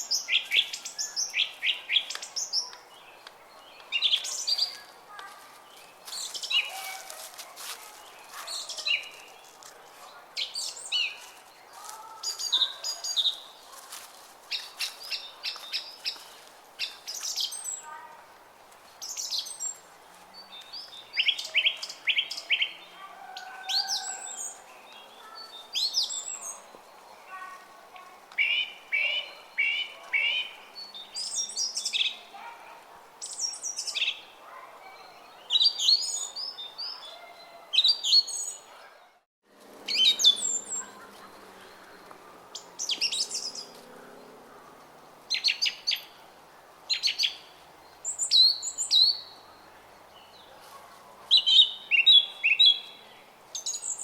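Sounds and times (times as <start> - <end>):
songbirds chirping and singing: 0.0 - 18.0, 19.0 - 39.1, 39.9 - 46.2.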